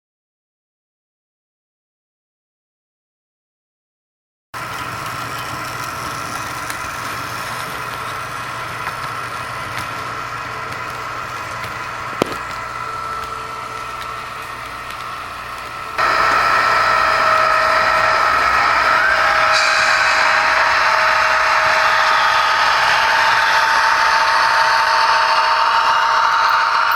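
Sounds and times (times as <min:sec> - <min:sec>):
model train motor whine: 0:04.6 - 0:26.9.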